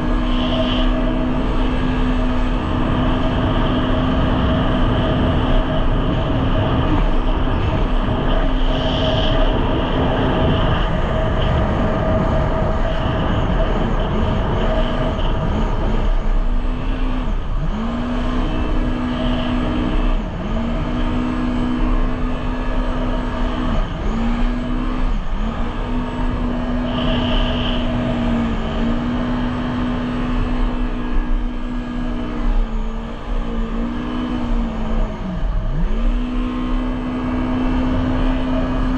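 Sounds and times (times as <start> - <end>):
jet ski engine running: 0.0 - 38.9
rush of wind and water: 0.0 - 38.9.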